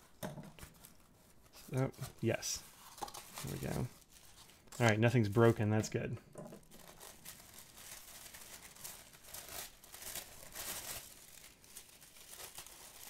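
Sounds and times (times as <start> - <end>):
packaging crinkling and rustling: 0.5 - 13.0.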